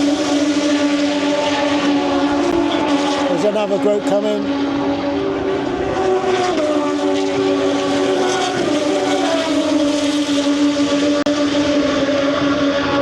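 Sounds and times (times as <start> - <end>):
racing motorcycles at high revs: 0.0 - 13.0.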